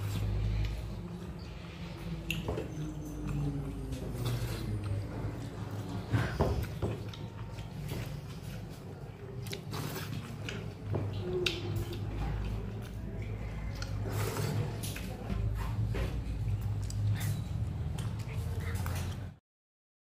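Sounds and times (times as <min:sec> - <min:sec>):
wet chewing and mouth smacking: 0:00.0 - 0:19.3
steady low hum: 0:00.0 - 0:19.4.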